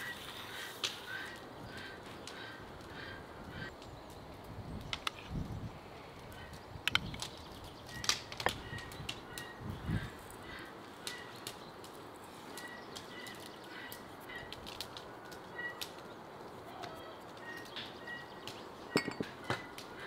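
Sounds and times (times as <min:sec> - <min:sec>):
light outdoor ambience: 0:00.0 - 0:20.0
songbird chirping: 0:03.6 - 0:20.0.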